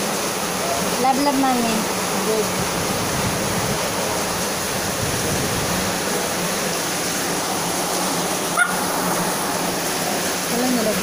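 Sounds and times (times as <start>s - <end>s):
steady rushing noise: 0.8s - 11.0s.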